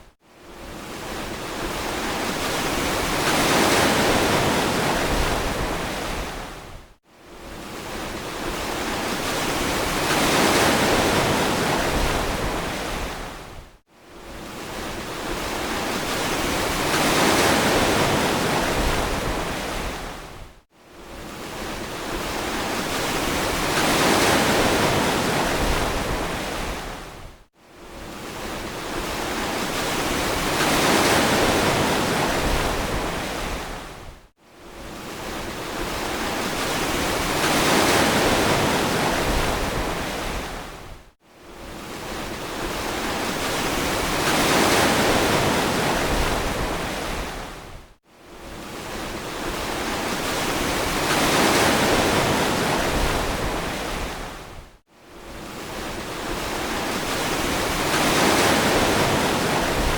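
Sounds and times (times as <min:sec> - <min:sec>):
ocean waves surging on beach: 0:00.6 - 0:06.6, 0:07.5 - 0:13.4, 0:14.2 - 0:20.2, 0:21.2 - 0:27.1, 0:28.0 - 0:33.9, 0:34.8 - 0:40.8, 0:41.7 - 0:47.6, 0:48.5 - 0:54.4, 0:55.3 - 0:59.9.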